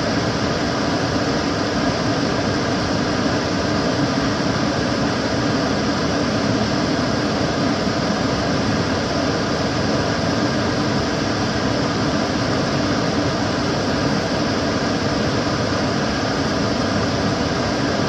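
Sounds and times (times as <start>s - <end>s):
extractor fan running: 0.0s - 18.0s.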